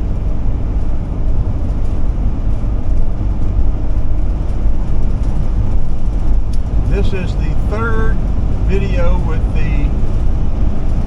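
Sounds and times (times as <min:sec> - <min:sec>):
road and engine rumble in cab: 0:00.0 - 0:11.0.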